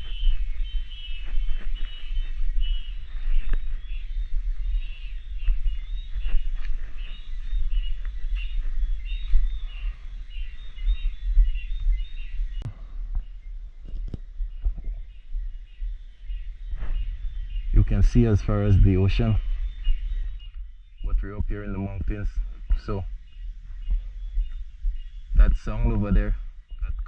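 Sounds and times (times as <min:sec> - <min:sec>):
cicadas buzzing: 0:00.0 - 0:27.0
low microphone rumble: 0:00.0 - 0:27.0.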